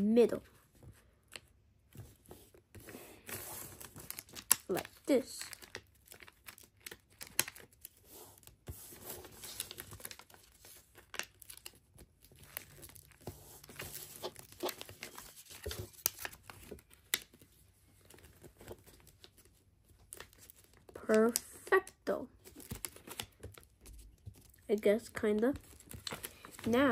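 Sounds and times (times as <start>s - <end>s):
paper rustling and crinkling: 0.6s - 21.4s, 22.4s - 26.9s.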